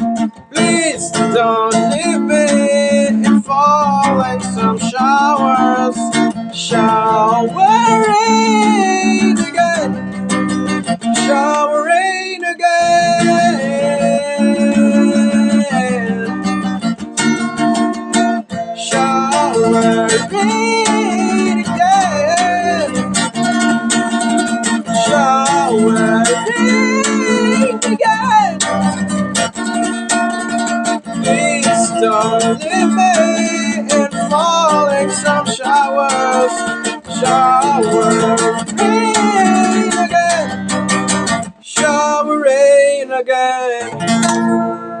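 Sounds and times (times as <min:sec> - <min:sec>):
wordless vocal melody: 0:00.0 - 0:29.5, 0:30.8 - 0:45.0
strummed acoustic guitar: 0:00.0 - 0:45.0.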